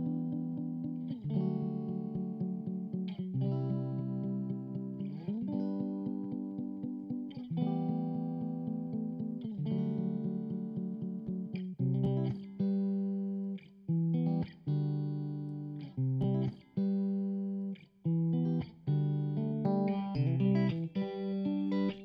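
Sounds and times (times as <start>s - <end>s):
guitar music: 0.0s - 22.0s.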